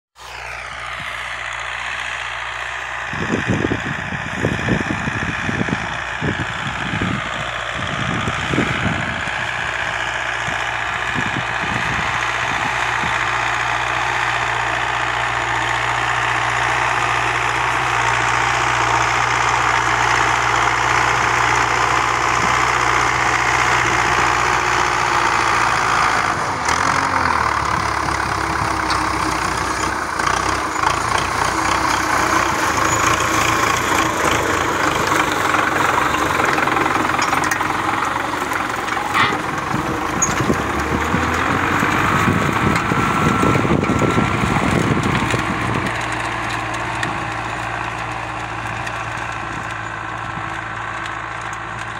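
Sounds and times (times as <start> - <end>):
tractor diesel engine running: 0.2 - 51.9.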